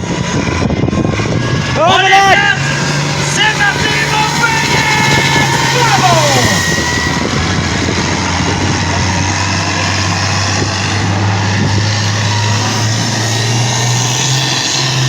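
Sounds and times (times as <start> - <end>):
engine running hard under load: 0.0 - 15.0.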